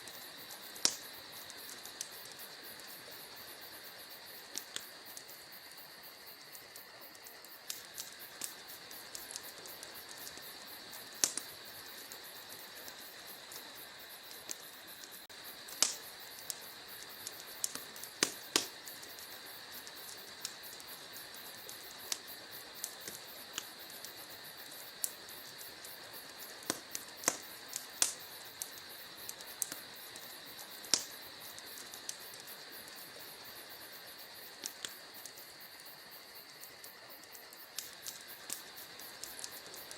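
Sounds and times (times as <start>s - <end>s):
steady high hiss: 0.0s - 39.9s
wood fire crackling: 0.0s - 39.9s.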